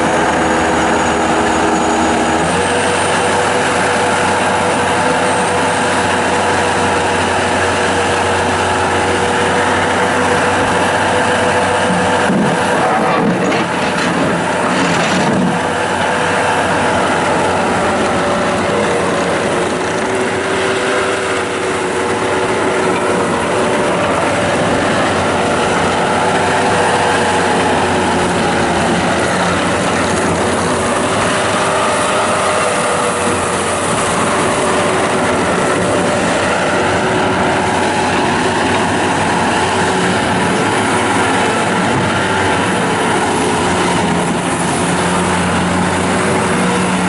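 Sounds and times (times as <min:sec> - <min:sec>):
diesel engine running: 0:00.0 - 0:47.0
steady whine: 0:00.0 - 0:47.0.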